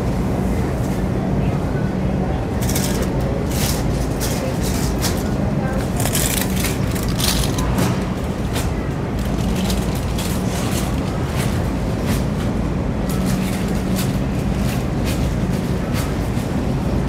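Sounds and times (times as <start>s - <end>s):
constant low hum: 0.0s - 17.0s
steady rumble: 0.0s - 17.0s.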